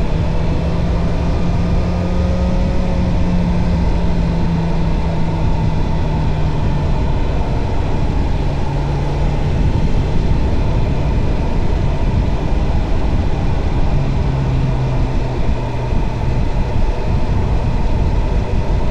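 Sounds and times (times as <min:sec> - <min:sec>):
motorcycle engine hum: 0:00.0 - 0:18.9
wind rush on microphone: 0:00.0 - 0:18.9.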